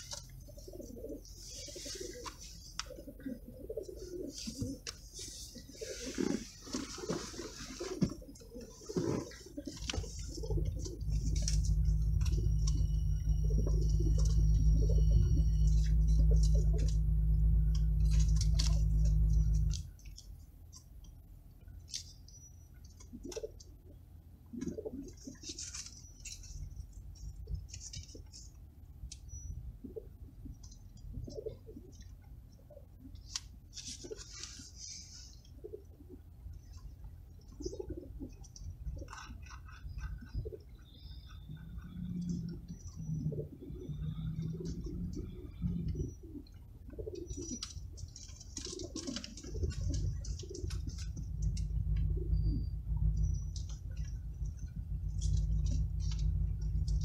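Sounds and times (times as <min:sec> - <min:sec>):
pigeons cooing: 0:00.0 - 0:19.8, 0:22.9 - 0:28.5, 0:29.3 - 0:57.0
car rumble: 0:00.0 - 0:57.0
soft low sounds: 0:00.0 - 0:57.0.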